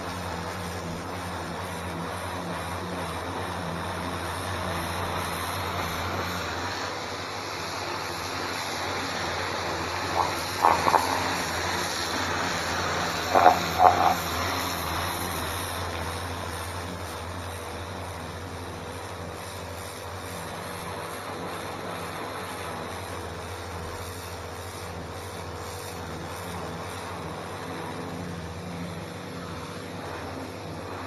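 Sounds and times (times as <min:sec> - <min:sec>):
pressure washer motor hum: 0:00.0 - 0:31.0
water jet hissing on slabs: 0:00.0 - 0:31.0.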